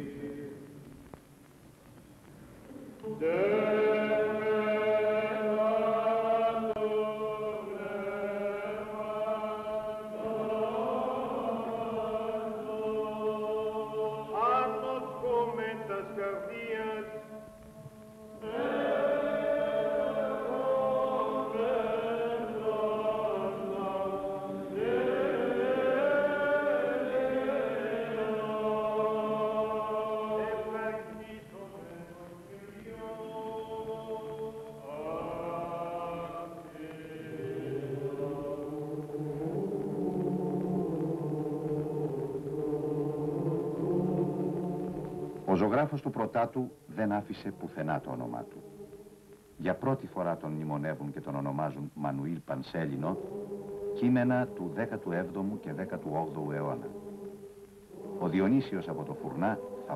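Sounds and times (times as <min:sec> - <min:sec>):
male choir chanting: 0:03.0 - 0:17.4, 0:18.2 - 0:49.0, 0:49.6 - 0:59.9.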